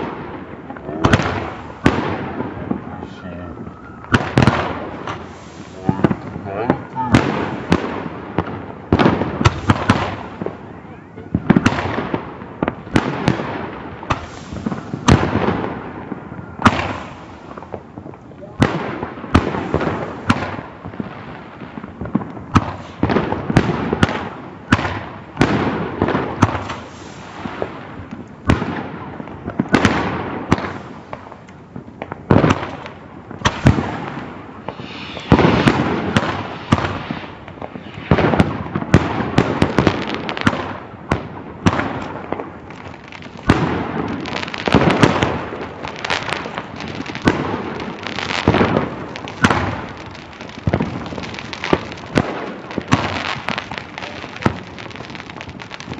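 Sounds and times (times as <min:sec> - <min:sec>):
fireworks bangs: 0:00.0 - 0:55.9
fireworks hissing and crackling: 0:00.0 - 0:55.9.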